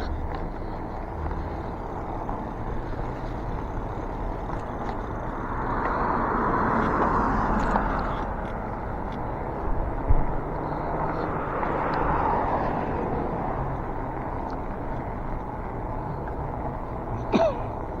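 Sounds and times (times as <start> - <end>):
traffic rumble: 0.0 - 18.0
vehicle tyres passing: 0.0 - 18.0.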